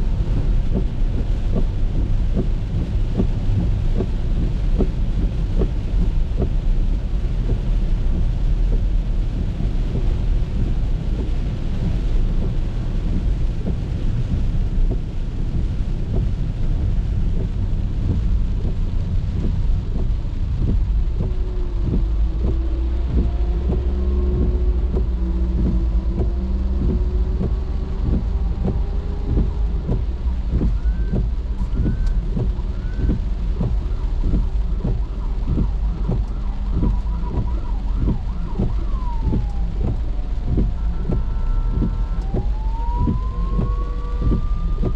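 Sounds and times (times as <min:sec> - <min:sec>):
car and wet road rumble: 0:00.0 - 0:44.9
rain pattering on car: 0:00.0 - 0:44.9.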